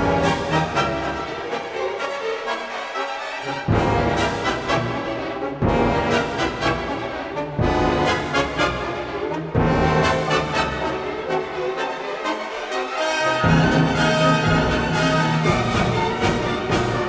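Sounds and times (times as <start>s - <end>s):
orchestral music led by brass: 0.0s - 17.0s.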